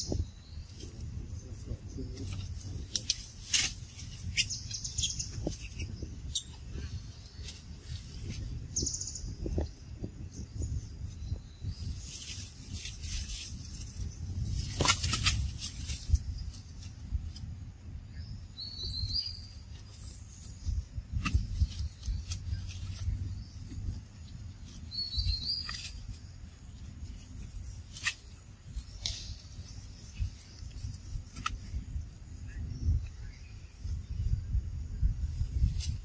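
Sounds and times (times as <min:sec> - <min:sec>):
ticks and rustles: 0:00.0 - 0:17.8, 0:19.2 - 0:33.2.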